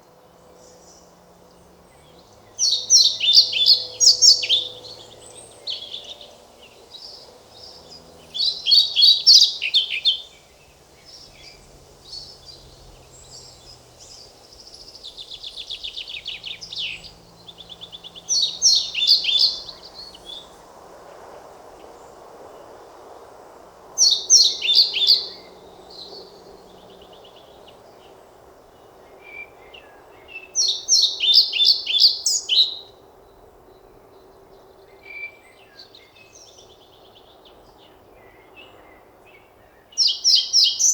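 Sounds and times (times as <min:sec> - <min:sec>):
bird singing: 0:00.0 - 0:20.7, 0:24.0 - 0:40.9.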